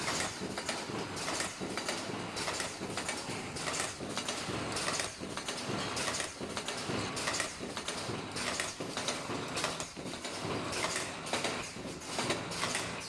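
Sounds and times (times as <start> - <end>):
machine clattering: 0.0 - 13.0.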